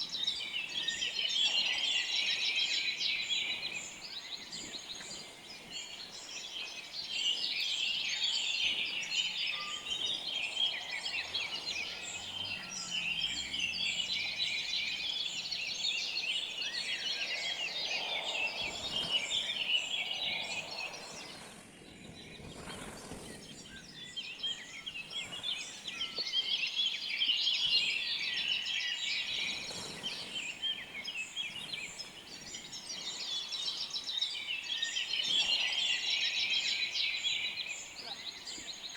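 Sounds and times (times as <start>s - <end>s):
dense chorus of birds chirping: 0.0s - 38.9s.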